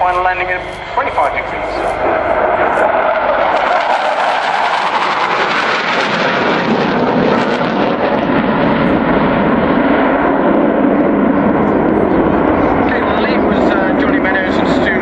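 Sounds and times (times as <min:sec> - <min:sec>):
jet roar flying past: 0:00.0 - 0:15.0.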